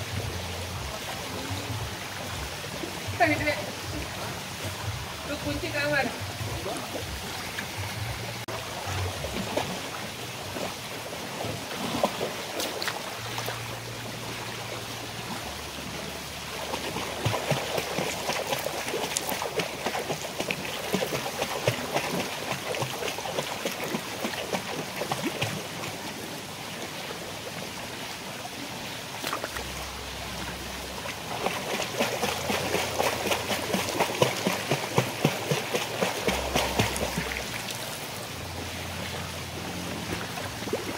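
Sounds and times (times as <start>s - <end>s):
pool water splashing: 0.0s - 40.9s.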